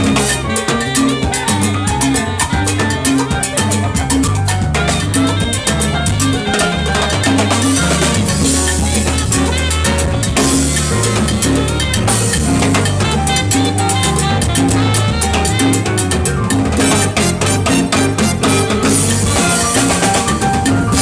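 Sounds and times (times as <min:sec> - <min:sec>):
bass line: 0:00.0 - 0:21.0
percussion rhythm: 0:00.0 - 0:21.0
salsa band playing: 0:00.0 - 0:21.0.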